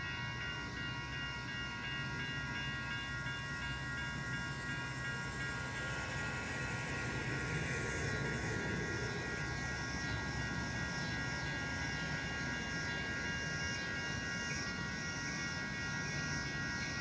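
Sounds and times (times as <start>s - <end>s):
high ringing tones: 0.0s - 17.0s
train rumble: 0.0s - 17.0s.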